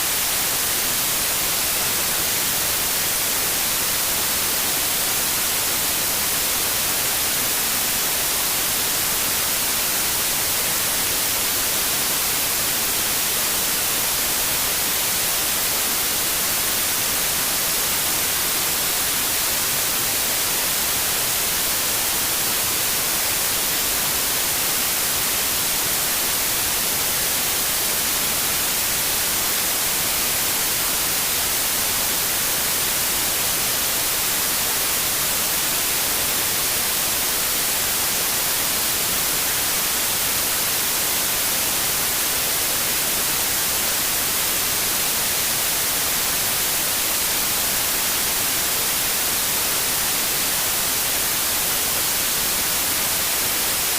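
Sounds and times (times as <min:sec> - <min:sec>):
white noise hiss: 0:00.0 - 0:53.9.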